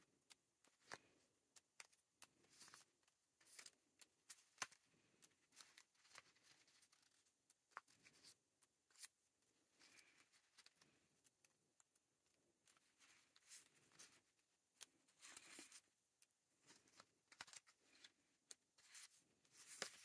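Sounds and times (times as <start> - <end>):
small clicks and taps: 0.0 - 9.2, 9.8 - 20.0.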